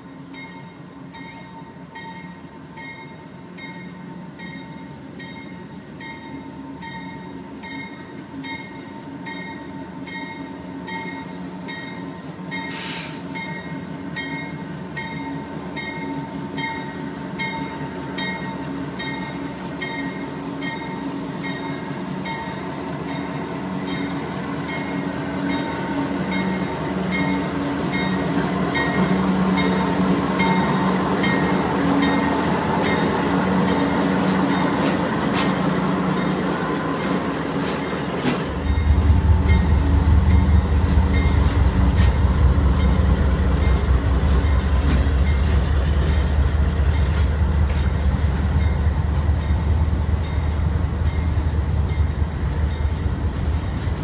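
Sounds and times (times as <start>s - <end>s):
crossing bell ringing: 0.0s - 12.8s, 13.4s - 34.9s, 36.1s - 47.3s
diesel locomotive engines: 0.0s - 54.0s
railcar clanks: 0.0s - 54.0s
train wheels clattering: 10.1s - 54.0s.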